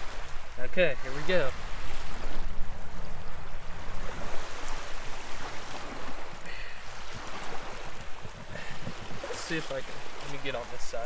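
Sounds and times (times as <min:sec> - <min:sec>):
small waves lapping on shore: 0:00.0 - 0:11.0.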